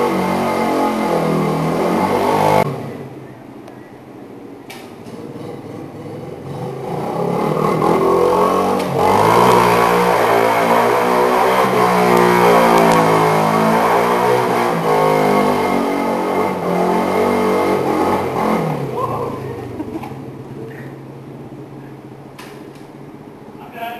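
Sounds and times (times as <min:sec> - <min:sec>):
atv engine revving: 0:00.0 - 0:03.2, 0:05.0 - 0:22.2.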